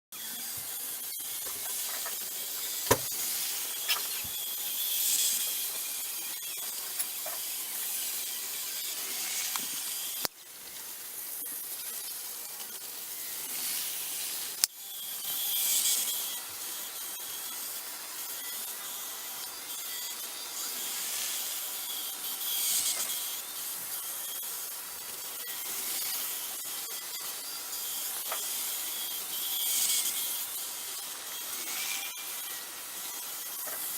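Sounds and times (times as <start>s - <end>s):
model trains whirring on track: 0.2s - 33.9s.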